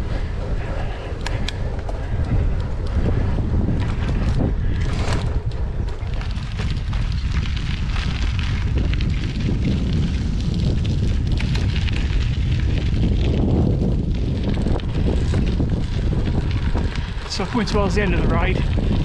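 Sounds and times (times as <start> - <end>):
wind buffeting microphone: 0.0 - 19.0
tyres crackling over gravel: 0.4 - 19.0.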